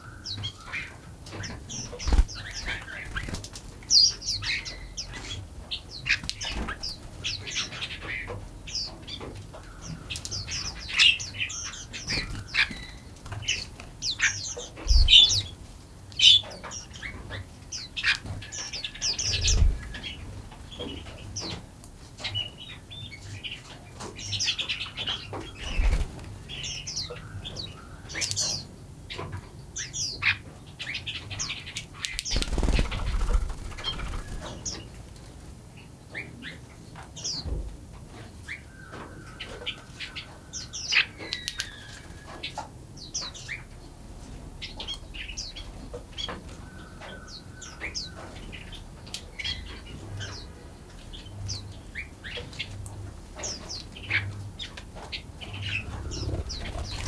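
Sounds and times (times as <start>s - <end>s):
songbirds chirping: 0.0s - 37.5s, 38.2s - 57.0s.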